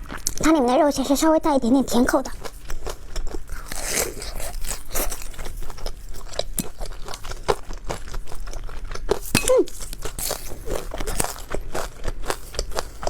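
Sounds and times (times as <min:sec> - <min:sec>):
crisp chewing crunches: 0:00.0 - 0:01.2, 0:01.9 - 0:13.0.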